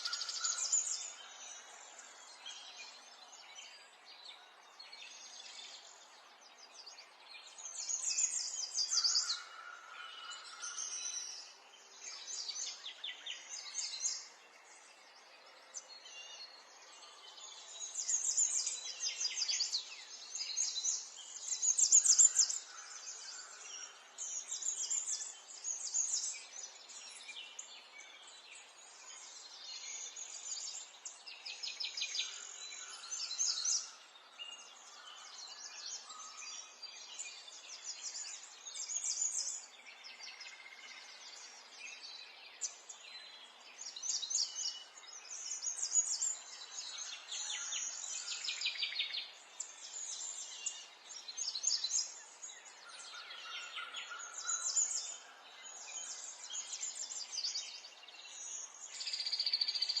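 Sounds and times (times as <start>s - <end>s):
faint outdoor hiss: 0.0s - 60.0s
songbirds chirping and twittering: 0.0s - 60.0s.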